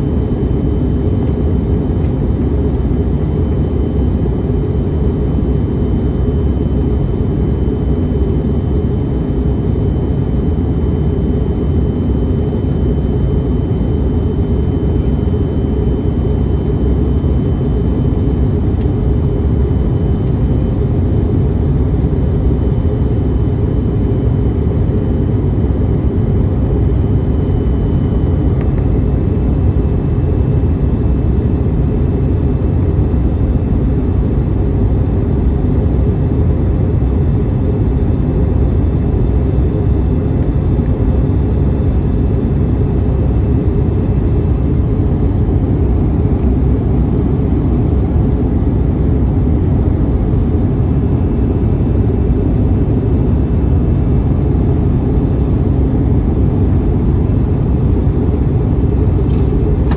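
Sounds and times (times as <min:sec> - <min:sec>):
airplane cabin rumble: 0:00.0 - 0:59.9
faint high whine tones: 0:00.0 - 0:59.9.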